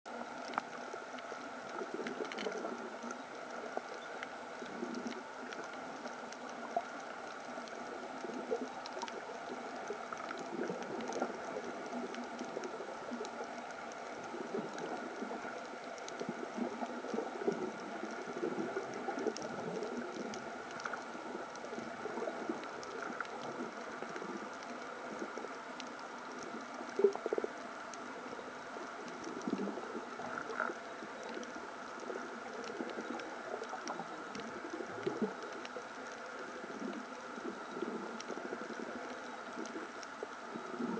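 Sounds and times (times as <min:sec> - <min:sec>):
bubbling: 0:00.1 - 0:40.9
faint clicks: 0:00.1 - 0:40.9
underwater water wash: 0:00.1 - 0:40.9.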